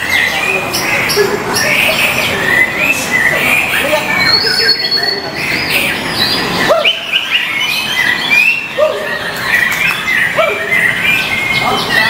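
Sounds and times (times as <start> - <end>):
birds singing whistled notes: 0.0 - 12.0.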